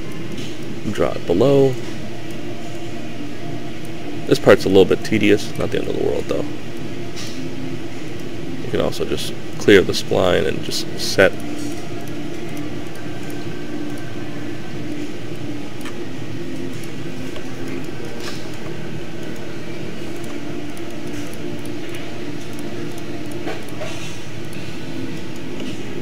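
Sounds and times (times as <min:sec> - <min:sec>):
low hum and hiss of room noise: 0:00.0 - 0:26.0.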